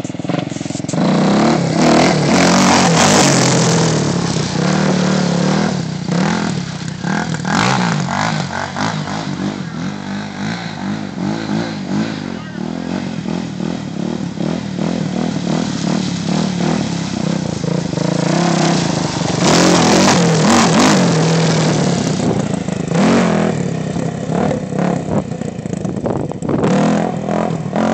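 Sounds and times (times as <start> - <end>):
atv engine revving: 0.0 - 27.9.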